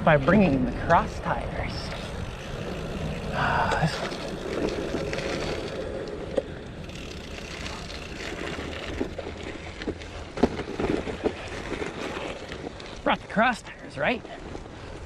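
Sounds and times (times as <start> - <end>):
bike tyres rolling on gravel: 0.0 - 15.0.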